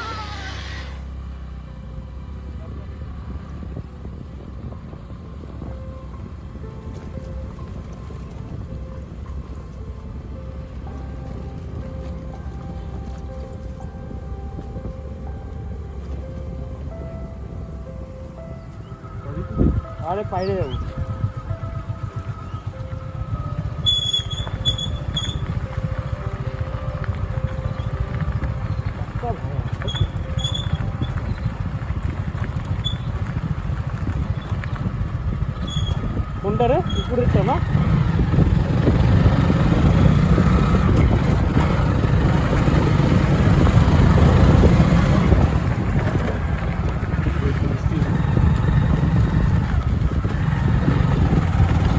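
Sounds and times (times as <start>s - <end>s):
motorcycle engine rumbling: 0.0s - 51.9s
road noise: 0.0s - 51.9s.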